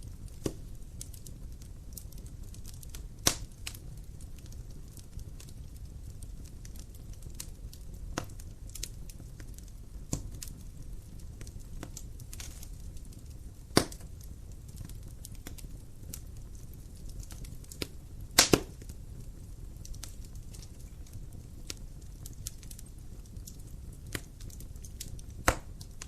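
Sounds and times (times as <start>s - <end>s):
fire pops and snaps: 0.0s - 26.0s
low steady fire rumble: 0.0s - 26.0s.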